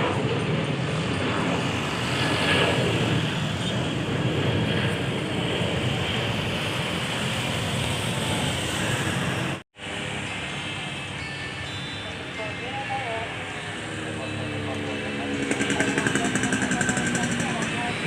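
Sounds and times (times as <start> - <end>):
jet engines during takeoff: 0.0 - 18.0.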